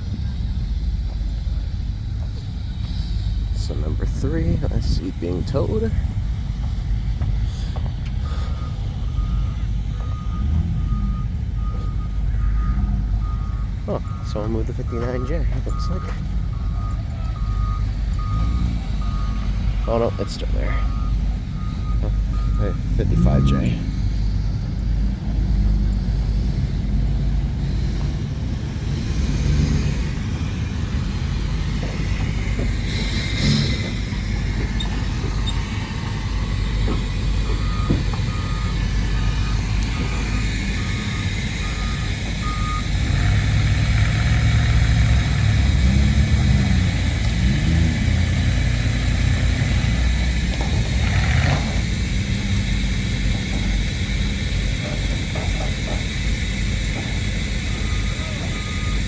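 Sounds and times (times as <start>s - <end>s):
engine revving: 0.0s - 59.0s
reversing alarm beeping: 0.0s - 59.0s
vehicle engines running: 0.0s - 59.0s.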